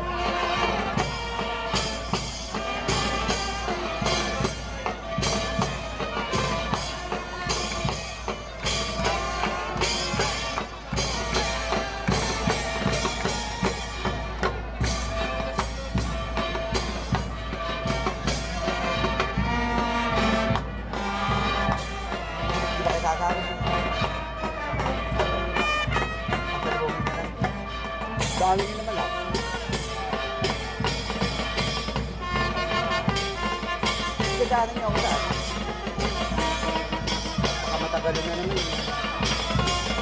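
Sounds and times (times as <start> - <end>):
brass band music: 0.0 - 40.0
drum strikes: 0.0 - 40.0.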